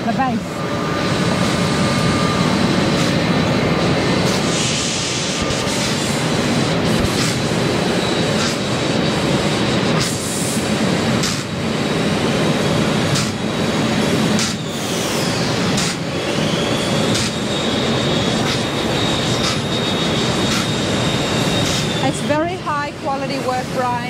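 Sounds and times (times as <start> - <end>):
milling machines running: 0.0 - 24.0
thin high whine: 0.0 - 24.0.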